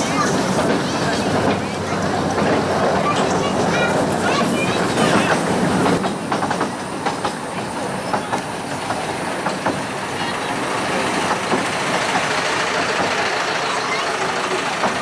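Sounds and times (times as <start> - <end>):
train rumbling: 0.0 - 15.0
wheels clicking over rail joints: 0.0 - 15.0.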